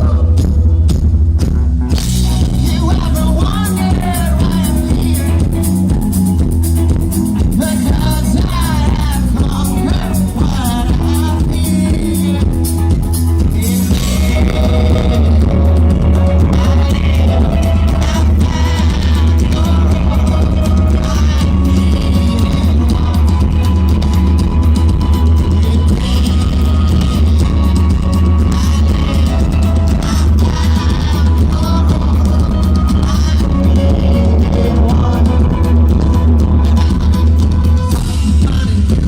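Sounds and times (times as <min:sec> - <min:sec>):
person singing: 0:00.0 - 0:00.7, 0:02.0 - 0:39.0
rock music with drums bass guitar: 0:00.0 - 0:39.0.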